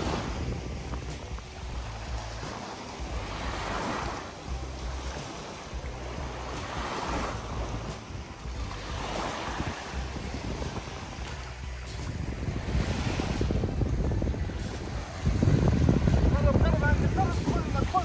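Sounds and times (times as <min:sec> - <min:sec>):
sea surf washing in: 0:00.0 - 0:18.0
wind rumbling on microphone: 0:00.0 - 0:18.0.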